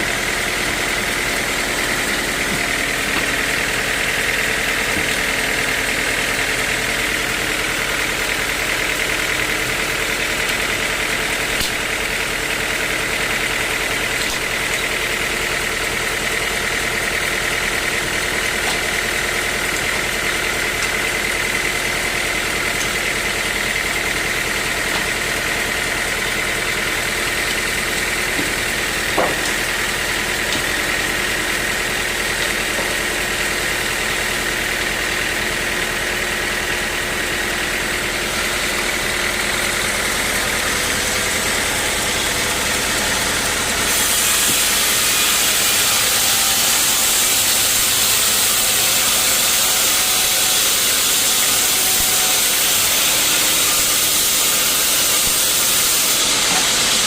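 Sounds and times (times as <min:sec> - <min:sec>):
motor hum: 0:00.0 - 0:15.0, 0:17.5 - 0:48.2.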